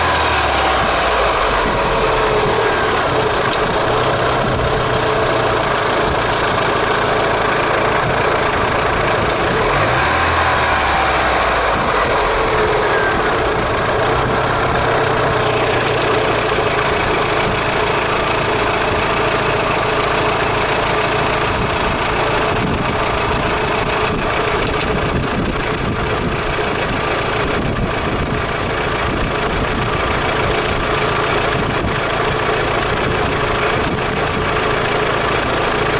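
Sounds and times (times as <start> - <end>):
engine idling with a knock: 1.6 - 9.8, 11.6 - 35.9.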